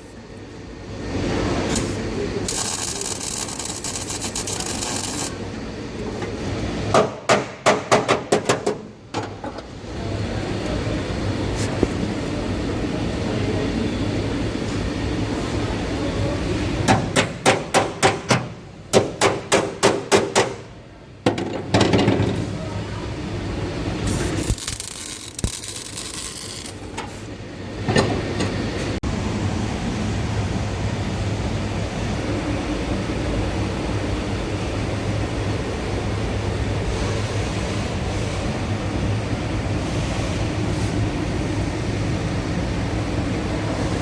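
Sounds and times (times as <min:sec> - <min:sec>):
steady background noise: 0:00.0 - 0:44.0.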